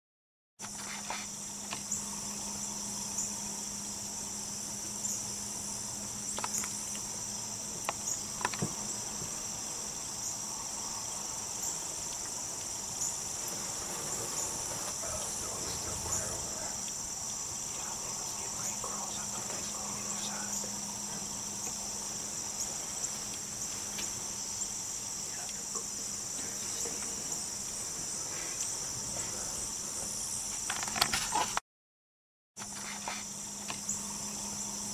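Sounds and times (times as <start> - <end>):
high-pitched insect chorus: 0.6 - 31.6, 32.6 - 34.9
low steady hum: 0.7 - 30.2.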